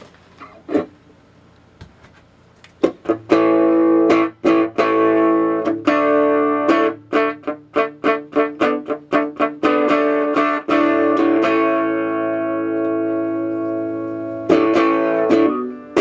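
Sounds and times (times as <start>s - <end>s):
electric guitar notes and chords: 2.8s - 16.0s.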